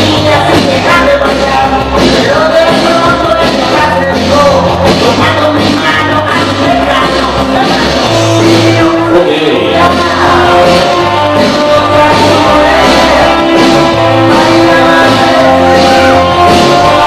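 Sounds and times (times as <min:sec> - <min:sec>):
loud dance music with vocal: 0:00.0 - 0:17.0
sustained bass line: 0:00.0 - 0:17.0.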